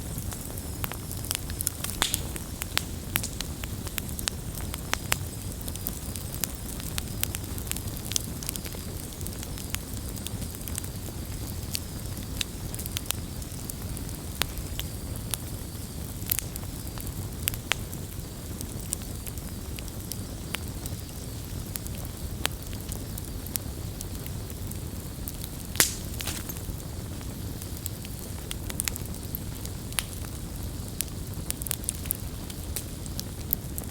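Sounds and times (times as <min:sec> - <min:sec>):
campfire crackling and popping: 0:00.0 - 0:33.9
low rumble of flames: 0:00.0 - 0:33.9.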